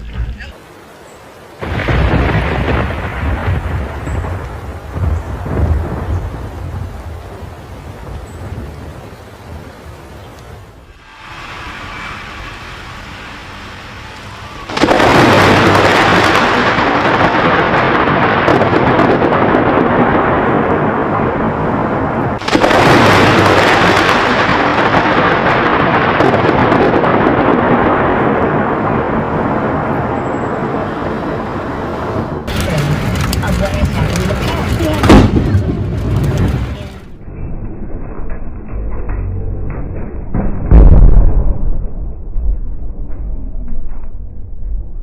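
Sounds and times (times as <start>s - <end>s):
thunder cracking and rumbling: 1.6s - 45.0s.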